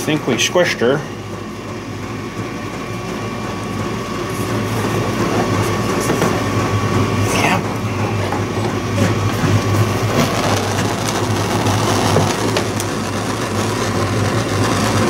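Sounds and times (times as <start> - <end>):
heat gun fan humming: 0.0 - 15.0.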